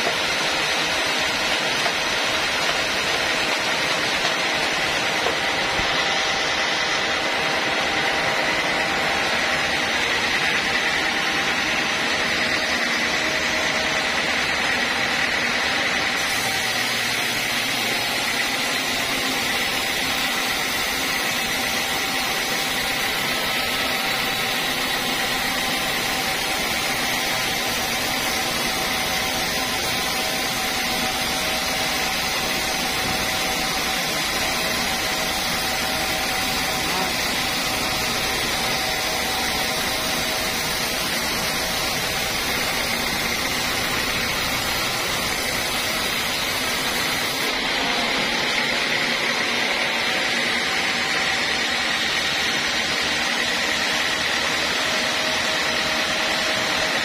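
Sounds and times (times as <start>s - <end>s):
band saw cutting wood: 0.0s - 57.0s.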